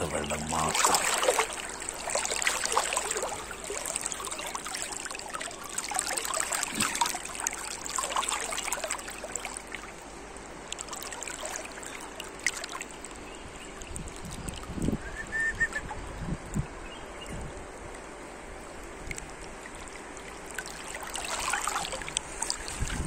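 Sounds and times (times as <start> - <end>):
river water rippling over shallows: 0.0 - 23.0.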